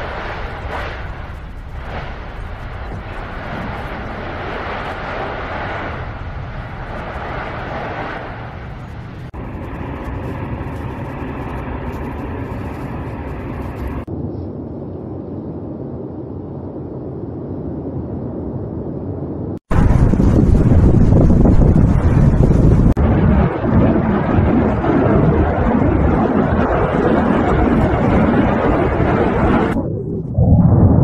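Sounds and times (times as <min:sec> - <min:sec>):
lava fountain rushing: 0:00.0 - 0:14.1, 0:19.7 - 0:31.0
deep volcanic rumble: 0:00.0 - 0:31.0.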